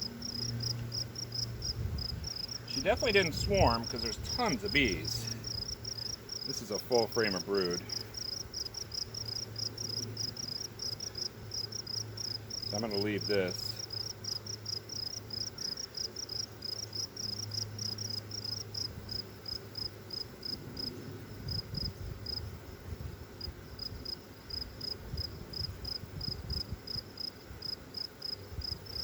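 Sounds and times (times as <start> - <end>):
cricket chirping: 0.0 - 22.8, 23.4 - 29.0.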